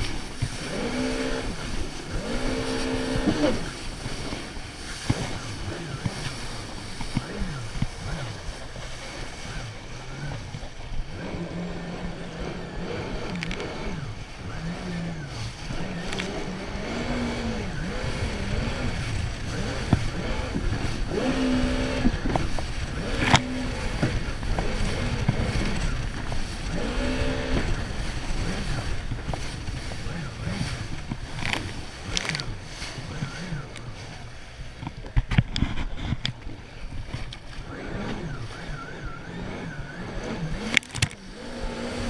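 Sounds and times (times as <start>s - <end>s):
jet ski engine running: 0.0s - 42.0s
water spray and wind rushing: 0.0s - 42.0s.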